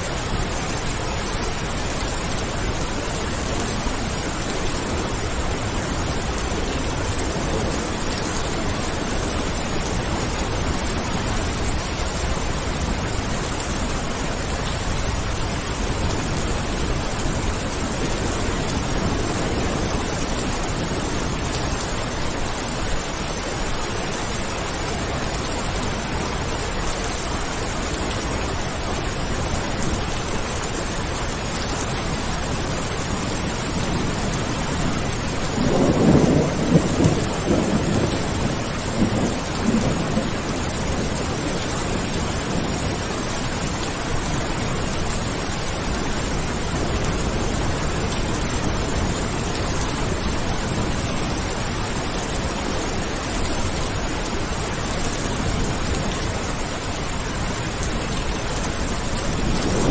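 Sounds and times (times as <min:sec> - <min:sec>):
steady rain falling: 0:00.0 - 0:59.9
thunder rumbling: 0:00.2 - 0:26.5, 0:31.1 - 0:59.9.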